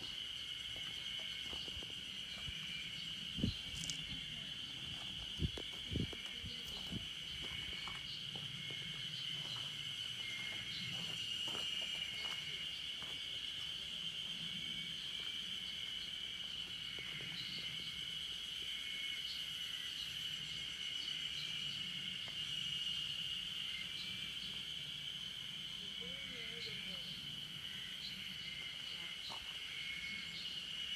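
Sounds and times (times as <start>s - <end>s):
insects buzzing high-pitched: 0.0s - 30.9s.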